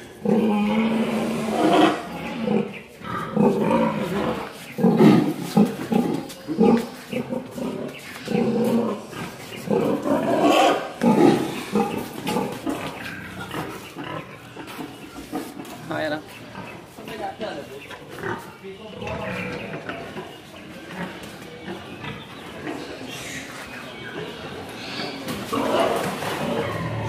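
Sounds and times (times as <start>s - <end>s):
pigs grunting: 0.0s - 27.0s.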